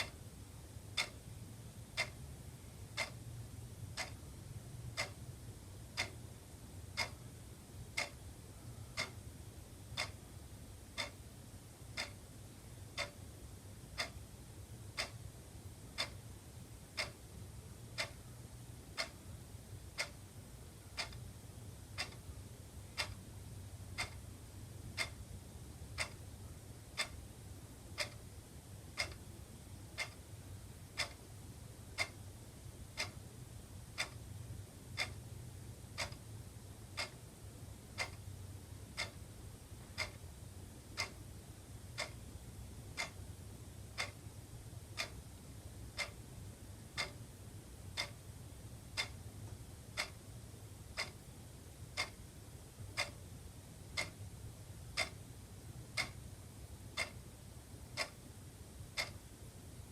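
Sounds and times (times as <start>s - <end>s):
faint low hum: 0.0s - 59.9s
wall clock ticking: 0.0s - 59.9s.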